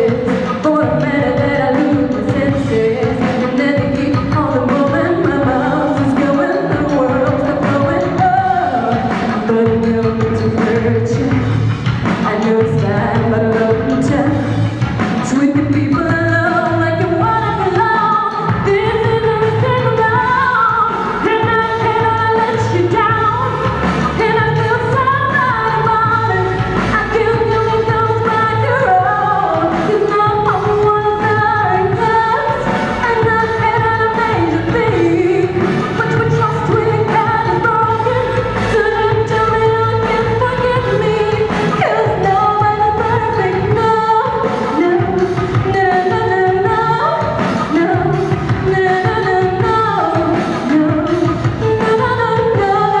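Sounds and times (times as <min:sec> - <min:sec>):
backing track music: 0:00.0 - 0:53.0
woman singing pop song: 0:00.0 - 0:53.0.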